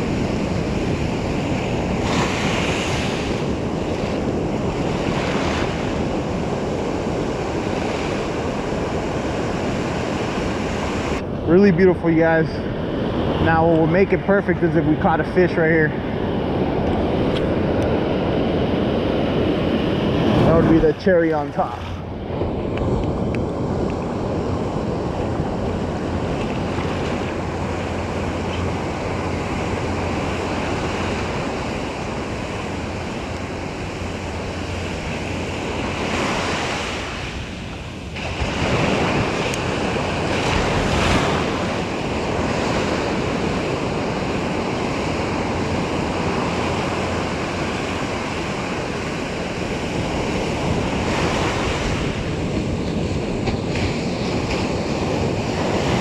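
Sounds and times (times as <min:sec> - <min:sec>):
ocean surf breaking on beach: 0:00.0 - 0:56.0
wind buffeting microphone: 0:00.0 - 0:56.0.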